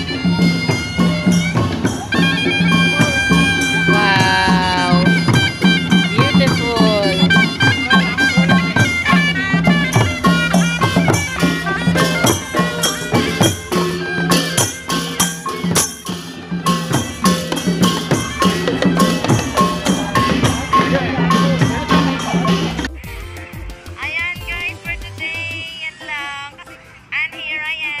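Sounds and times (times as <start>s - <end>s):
hand cymbals: 0.0s - 23.0s
reedy pipe melody: 0.0s - 23.7s
long drums beating: 0.0s - 25.2s.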